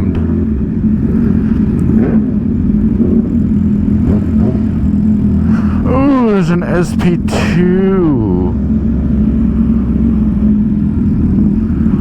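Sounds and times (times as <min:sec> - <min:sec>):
motorcycle engine cruising: 0:00.0 - 0:06.7, 0:07.3 - 0:12.0
wind and road noise: 0:00.0 - 0:12.0.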